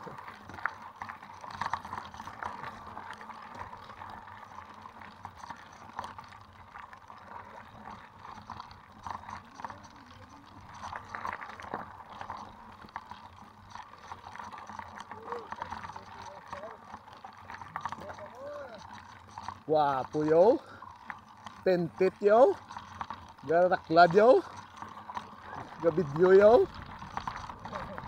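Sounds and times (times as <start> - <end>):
bike rattles and clicks: 0.0 - 28.0
tyres crunching on gravel: 0.0 - 28.0.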